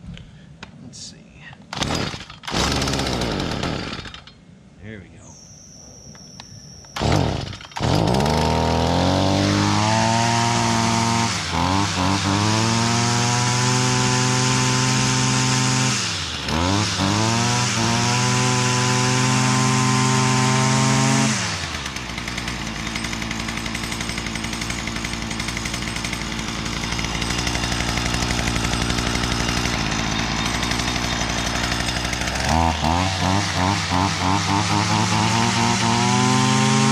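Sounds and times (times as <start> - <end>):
string trimmer engine running: 1.7 - 4.4, 6.9 - 36.9.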